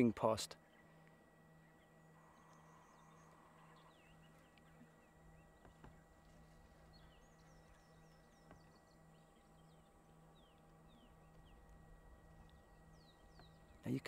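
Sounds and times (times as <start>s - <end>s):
faint low hum: 0.0s - 14.0s
small birds chirping: 0.0s - 14.0s.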